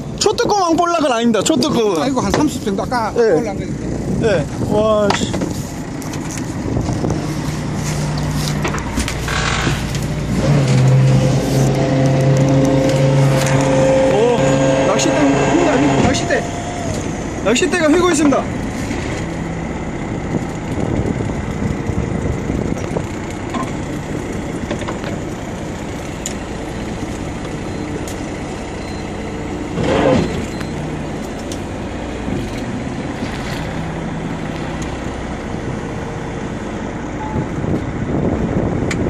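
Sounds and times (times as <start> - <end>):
boat engine idling: 0.0 - 38.9
wind: 0.0 - 39.0.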